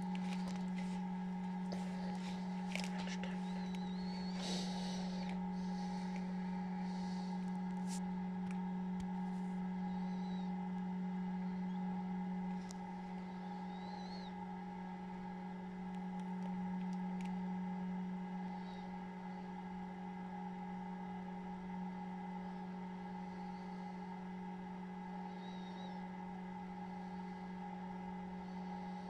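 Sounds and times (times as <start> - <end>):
fan motor hum: 0.0 - 29.0.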